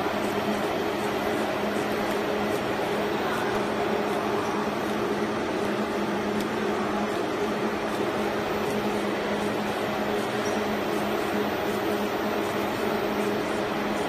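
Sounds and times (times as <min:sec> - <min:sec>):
labelling machine humming: 0:00.0 - 0:14.0.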